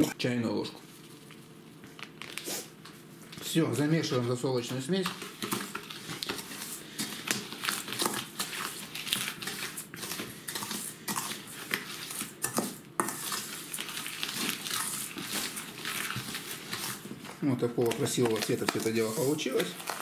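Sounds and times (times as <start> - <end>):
salt mix stirred in metal bowl: 3.8 - 20.0.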